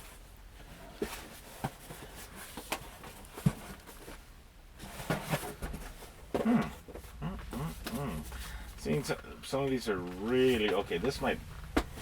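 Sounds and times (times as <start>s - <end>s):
cardboard packaging rustling: 0.0s - 12.0s.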